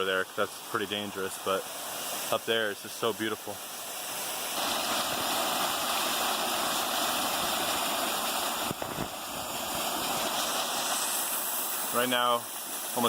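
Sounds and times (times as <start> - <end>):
rushing falling water: 0.0 - 13.0.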